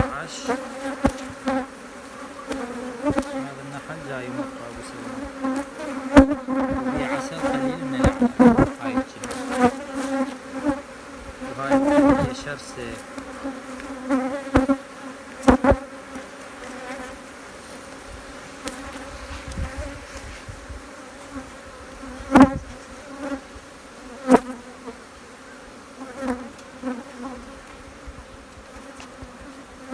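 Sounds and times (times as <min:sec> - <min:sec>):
honeybees buzzing: 0:00.0 - 0:29.9.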